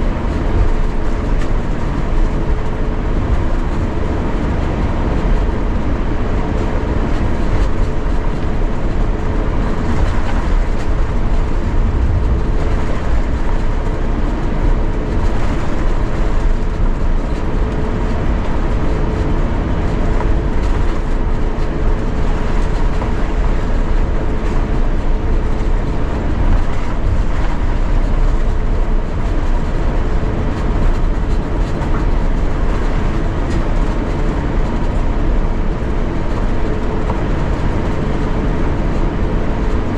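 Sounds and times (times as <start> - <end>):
aircraft cabin low rumble: 0.0 - 39.9
steady mid-pitched hum: 0.0 - 39.9.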